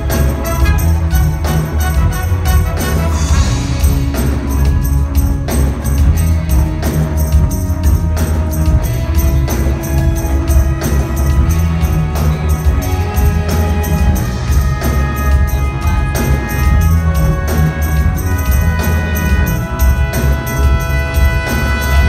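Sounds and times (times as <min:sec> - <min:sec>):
orchestra playing: 0:00.0 - 0:22.0.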